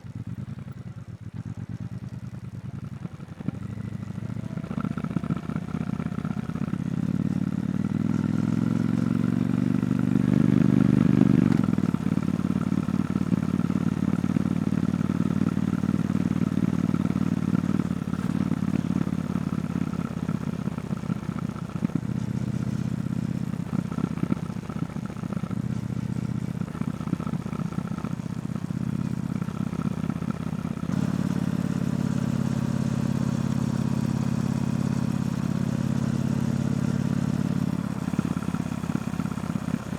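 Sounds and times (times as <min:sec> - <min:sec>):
motorcycle engine accelerating: 0:01.5 - 0:39.9.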